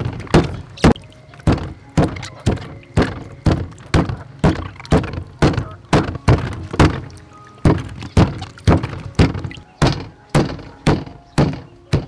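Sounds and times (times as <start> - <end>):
stone pestle pounding in mortar: 0.2 - 7.0, 7.7 - 12.0.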